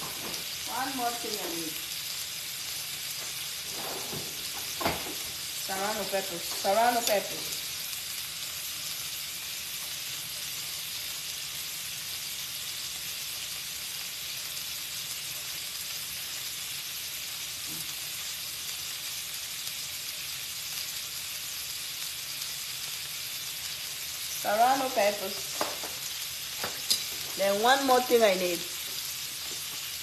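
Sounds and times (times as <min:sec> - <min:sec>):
vegetables sizzling on a griddle: 0:00.0 - 0:30.0.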